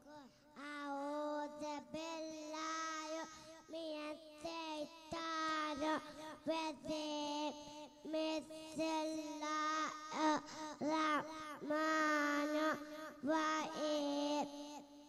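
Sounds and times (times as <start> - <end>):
boy chanting into a microphone: 0.0 - 15.0.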